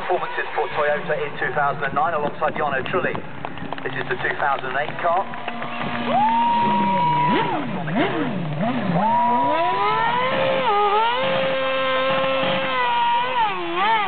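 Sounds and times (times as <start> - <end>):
racing car engine revving: 0.0 - 2.4, 3.3 - 14.0.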